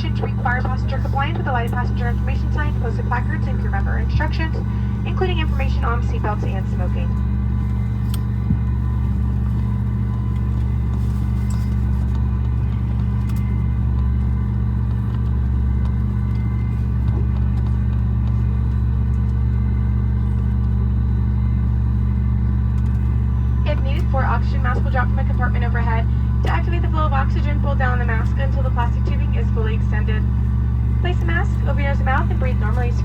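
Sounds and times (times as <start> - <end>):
airplane cabin drone: 0.0 - 33.0.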